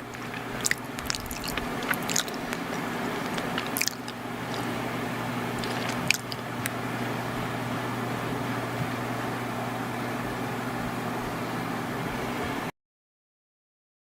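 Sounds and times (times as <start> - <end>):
low electrical hum and hiss: 0.0 - 12.4.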